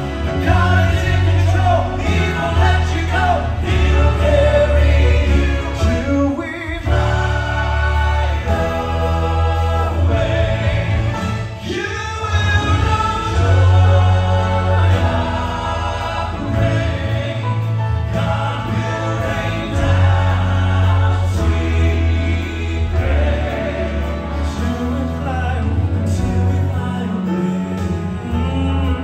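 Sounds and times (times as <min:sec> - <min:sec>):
male quartet singing in harmony: 0:00.0 - 0:29.0
music with steady bass: 0:00.0 - 0:29.0.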